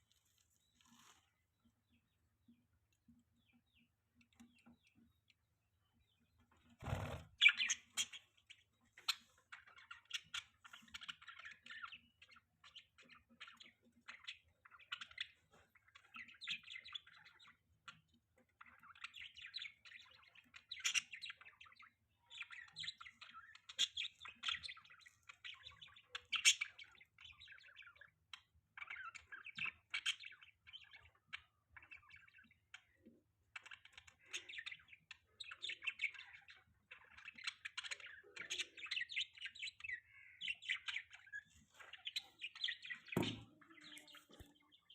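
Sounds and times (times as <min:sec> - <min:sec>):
budgies chirping and warbling: 0:00.2 - 0:44.9.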